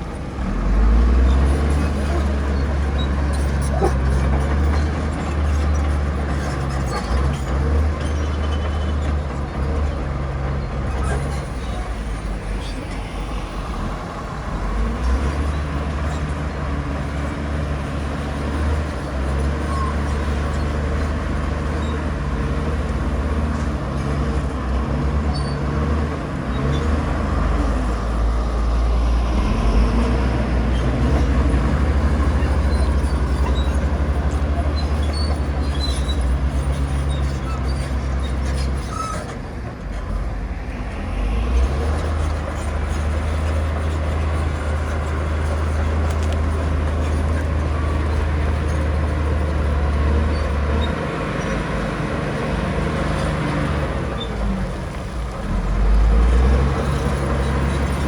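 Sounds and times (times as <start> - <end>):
heavy machine diesel engine: 0.0 - 58.0.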